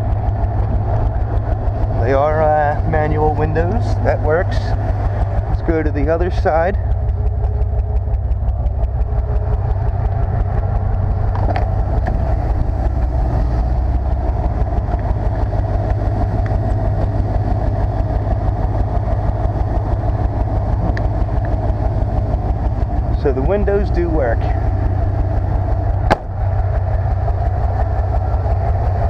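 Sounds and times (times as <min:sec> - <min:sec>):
pickup engine idling: 0:00.0 - 0:29.0.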